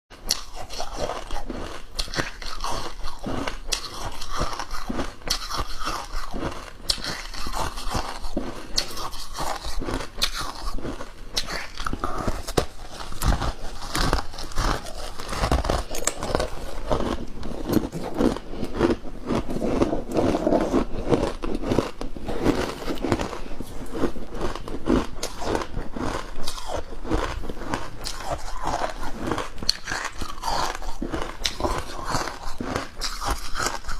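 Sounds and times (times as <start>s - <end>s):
crunchy chewing: 0.2s - 33.9s.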